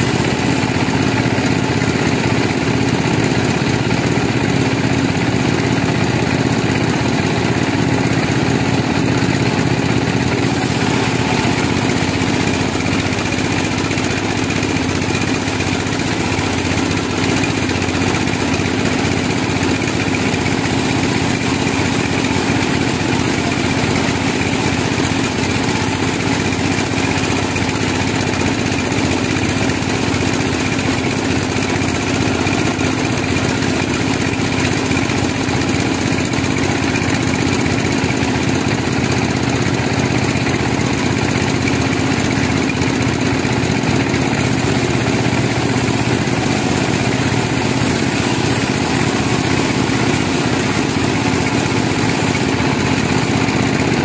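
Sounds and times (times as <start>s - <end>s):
band sawmill sawing: 0.0s - 4.2s, 7.6s - 54.0s.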